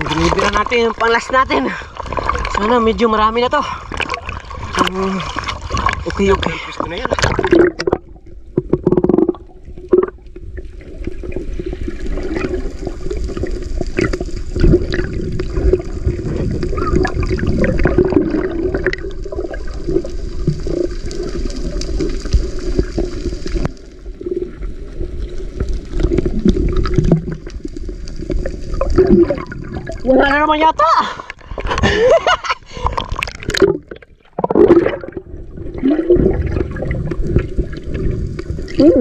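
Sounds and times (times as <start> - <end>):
underwater rumble of moving water: 0.0 - 39.0.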